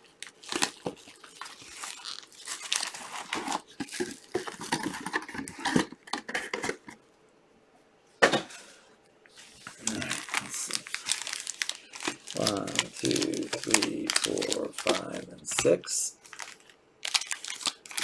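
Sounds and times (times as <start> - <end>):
plastic wrapping crinkling and tearing: 0.0 - 6.0, 9.4 - 18.0.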